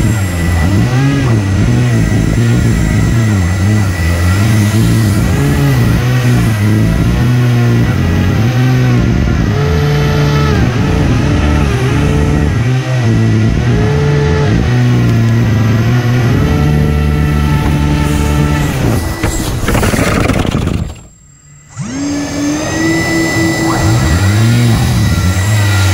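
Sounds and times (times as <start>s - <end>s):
rc hovercraft motors whining: 0.0s - 25.9s
steady high whine: 0.0s - 25.9s.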